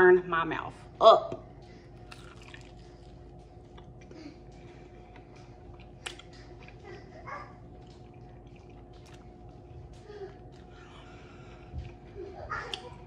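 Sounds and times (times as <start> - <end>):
steady low hum: 0.0 - 13.0
wet chewing and mouth sounds: 1.7 - 13.0.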